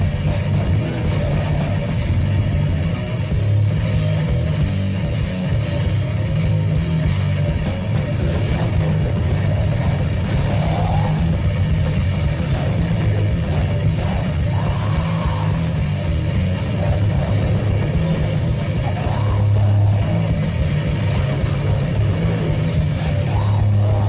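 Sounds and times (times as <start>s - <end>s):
heavy rock music from radio: 0.0s - 24.0s.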